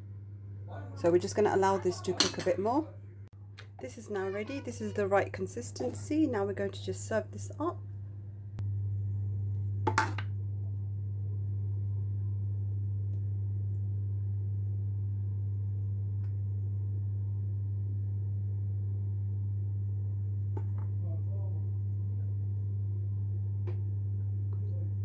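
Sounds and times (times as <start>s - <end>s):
steady low hum: 0.0s - 3.9s, 5.0s - 25.0s.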